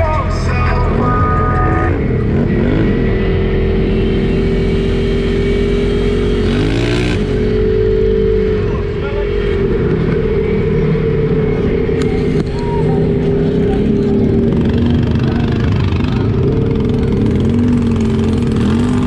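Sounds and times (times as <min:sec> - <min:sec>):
utility vehicle engine droning: 0:00.0 - 0:19.0.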